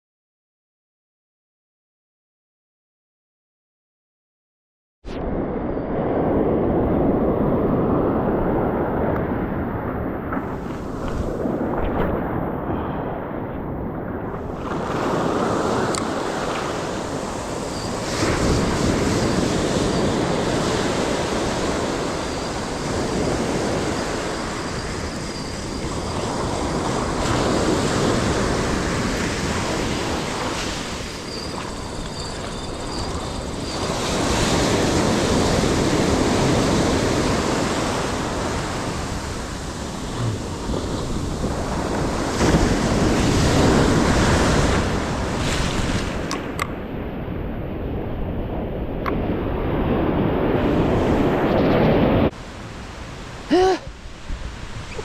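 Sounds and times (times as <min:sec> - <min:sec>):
ocean surf washing ashore: 0:05.2 - 0:55.0
wind buffeting microphone: 0:05.2 - 0:55.0.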